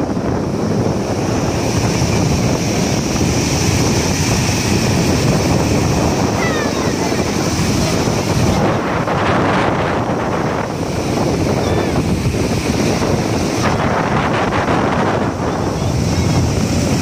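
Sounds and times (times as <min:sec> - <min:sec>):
floodwater rushing over weir: 0:00.0 - 0:17.0.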